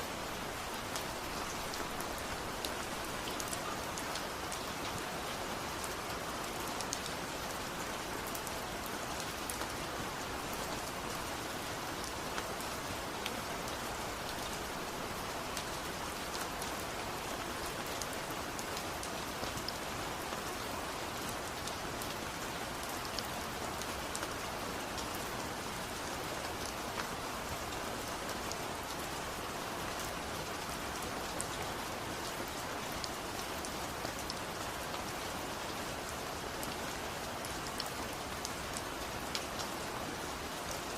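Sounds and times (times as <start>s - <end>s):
rain pattering on hard surfaces: 0.0s - 40.9s.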